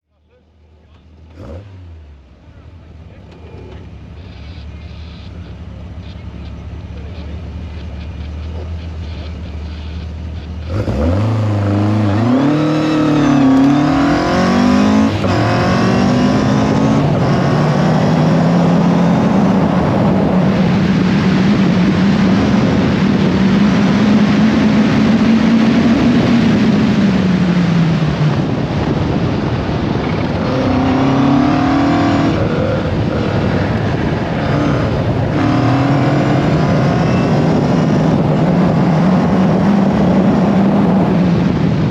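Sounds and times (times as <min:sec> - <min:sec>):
race car engine accelerating: 0:00.9 - 0:41.9
heavy rush of noise: 0:02.5 - 0:41.9.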